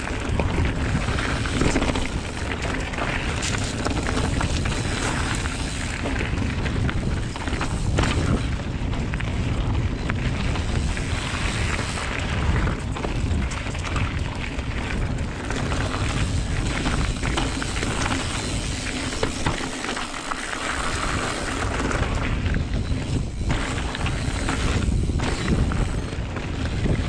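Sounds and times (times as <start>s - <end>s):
wind buffeting microphone: 0.0s - 19.8s, 20.6s - 27.0s
bike tyres rumbling on dirt: 0.0s - 27.0s.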